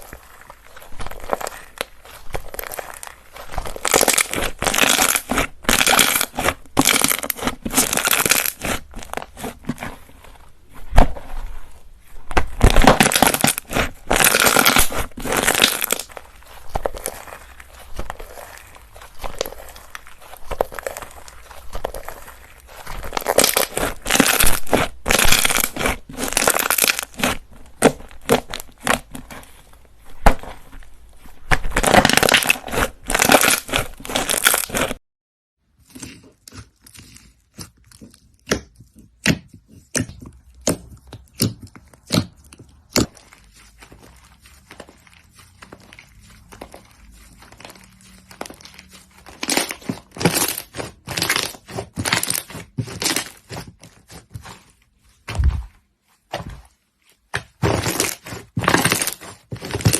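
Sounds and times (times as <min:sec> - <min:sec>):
slime crackling and popping: 0:00.0 - 0:35.0, 0:35.8 - 0:55.6, 0:57.0 - 0:59.9.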